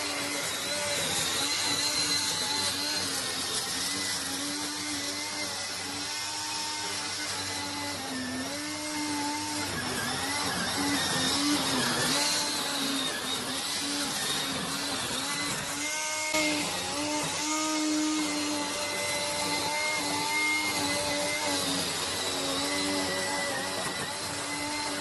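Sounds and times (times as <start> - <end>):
cutter rushing through weeds: 0.0 - 25.0
weed trimmer motor whine: 0.0 - 25.0.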